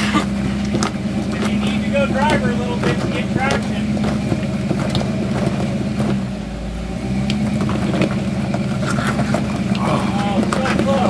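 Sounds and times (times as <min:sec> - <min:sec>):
sharp clicks and knocks: 0:00.0 - 0:06.5, 0:07.2 - 0:11.0
off-road vehicle engine running: 0:00.0 - 0:11.0.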